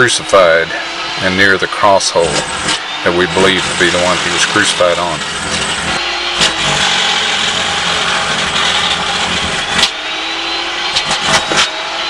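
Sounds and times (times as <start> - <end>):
electric jackhammer running: 0.0 - 12.0.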